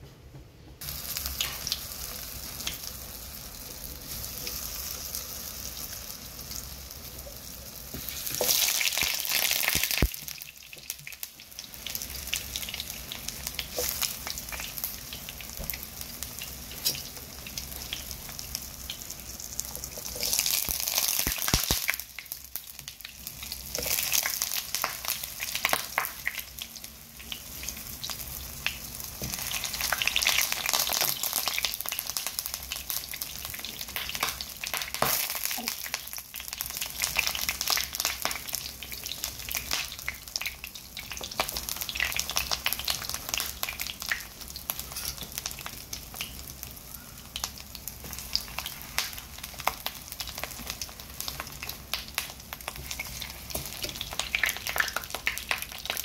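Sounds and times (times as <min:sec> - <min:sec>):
food sizzling in hot oil: 0:00.8 - 0:56.0.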